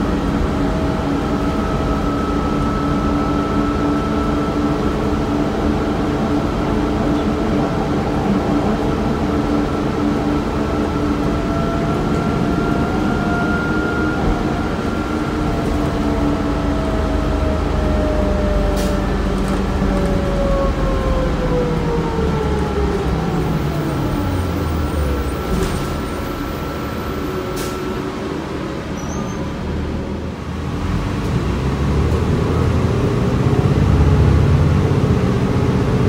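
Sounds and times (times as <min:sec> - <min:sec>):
bus engine hum and whine: 0:00.0 - 0:36.0.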